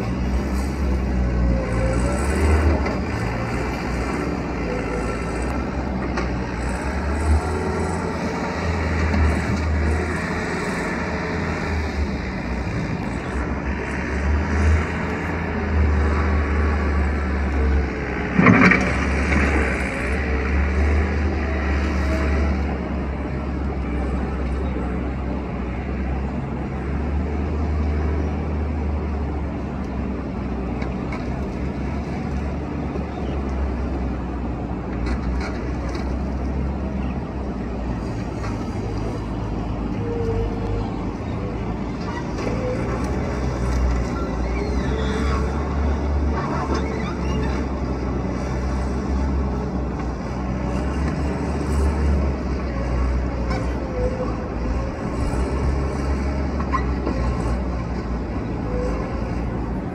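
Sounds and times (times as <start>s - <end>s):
skid-steer loader engine running: 0.0s - 59.9s.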